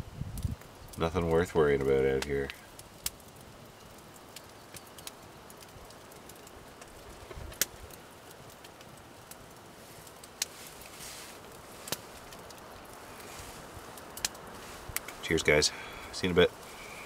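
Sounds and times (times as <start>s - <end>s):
campfire popping: 0.0s - 17.0s
rain pattering on a tarp: 0.0s - 17.0s.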